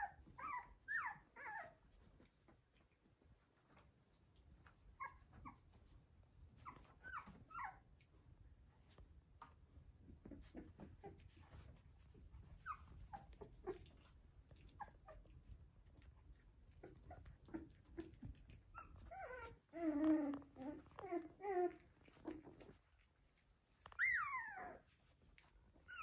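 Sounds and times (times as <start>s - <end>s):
puppies whimpering and squeaking: 0.0s - 3.0s, 4.6s - 9.0s, 9.9s - 26.0s.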